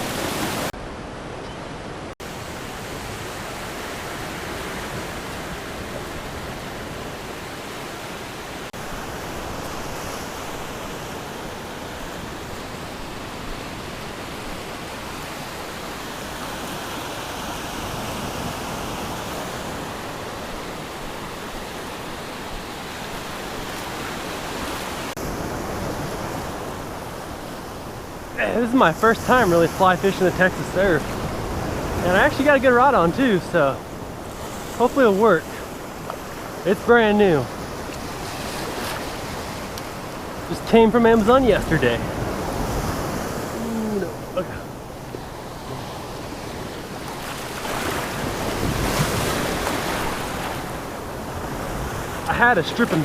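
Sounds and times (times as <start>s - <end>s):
surf rushing and hissing: 0.0s - 53.0s.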